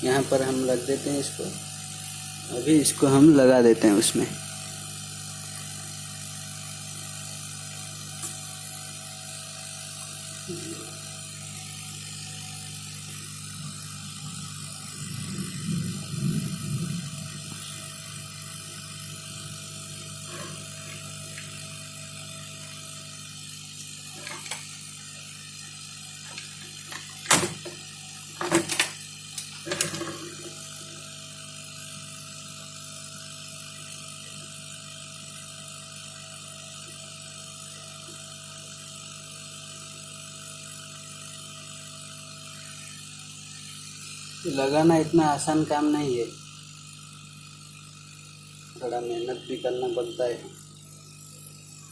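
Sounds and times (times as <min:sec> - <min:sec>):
hot-air blower fan hum: 0:00.0 - 0:51.9.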